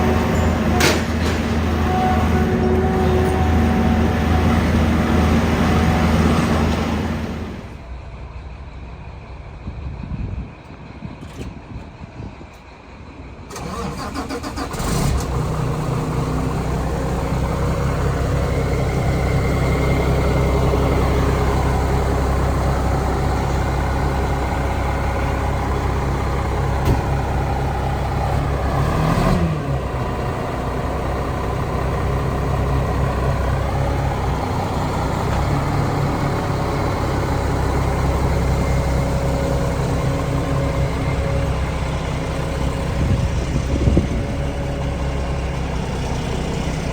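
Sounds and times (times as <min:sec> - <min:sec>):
diesel engine starting and running: 0:00.0 - 0:46.9
engine whine: 0:00.0 - 0:46.9.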